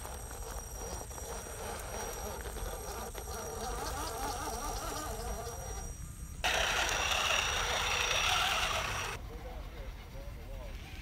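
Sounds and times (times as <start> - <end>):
electric motor and gearbox whining: 0.0 - 9.2.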